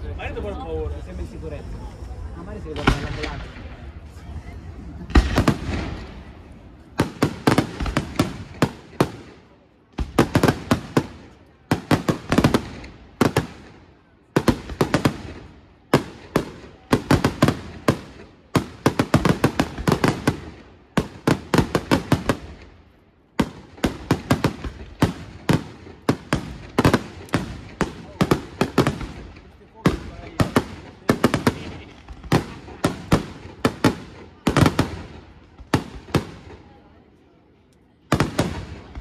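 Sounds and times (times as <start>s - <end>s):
fireworks bursting: 1.0s - 36.9s, 38.1s - 39.0s.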